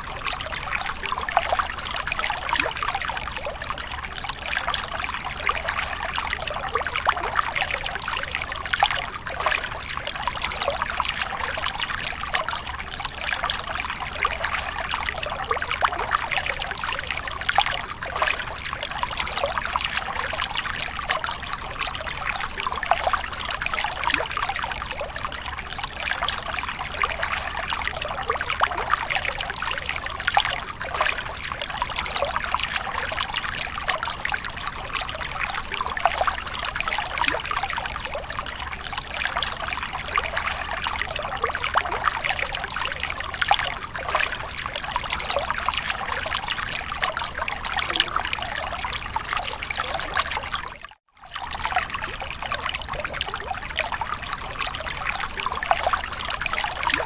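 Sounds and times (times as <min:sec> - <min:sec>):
water trickling into pool: 0:00.0 - 0:57.0.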